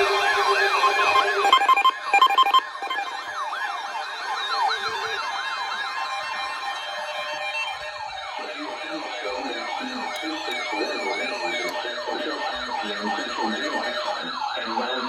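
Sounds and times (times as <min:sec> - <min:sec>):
electronic siren sweeping: 0:00.0 - 0:15.0.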